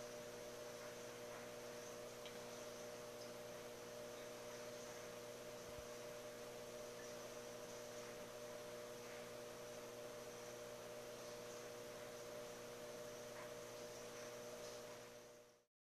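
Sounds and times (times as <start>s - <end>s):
aquarium equipment humming: 0.0s - 15.7s.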